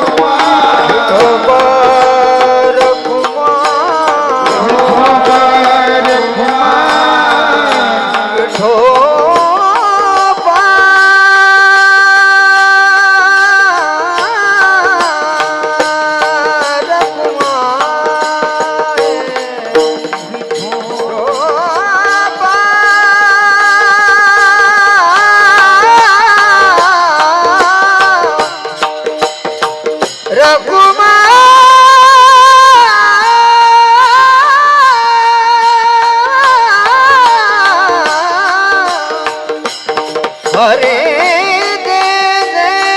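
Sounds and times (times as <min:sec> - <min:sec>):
devotional melody singing: 0:00.0 - 0:42.9
fast dense percussion beat: 0:00.0 - 0:42.9.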